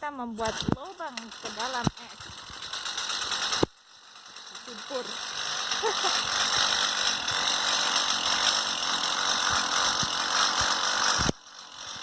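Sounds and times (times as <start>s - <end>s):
ice auger engine running: 0.4s - 12.0s.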